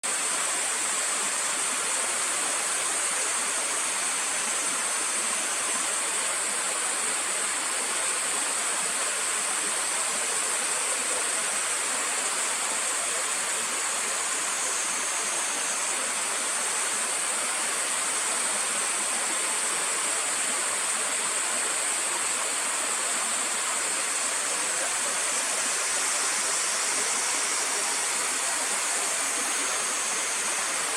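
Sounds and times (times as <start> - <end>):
stream water rushing: 0.1 - 30.9.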